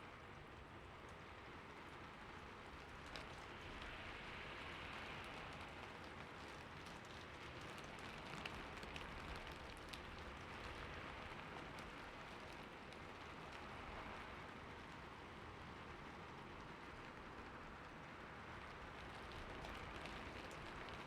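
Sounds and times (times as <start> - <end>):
soft steady rain: 0.0 - 21.0
raindrop ticks: 1.8 - 4.0, 4.6 - 21.0.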